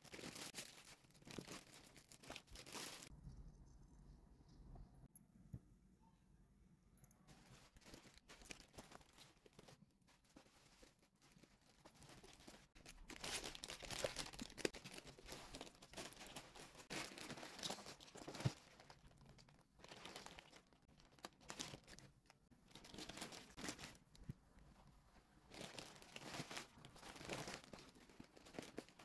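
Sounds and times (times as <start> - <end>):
plastic bag crinkling: 0.0 - 3.1, 7.4 - 24.2, 25.5 - 29.0.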